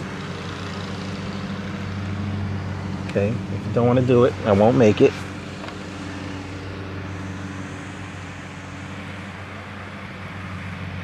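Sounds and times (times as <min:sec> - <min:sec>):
distant motor hum: 0:00.0 - 0:11.0.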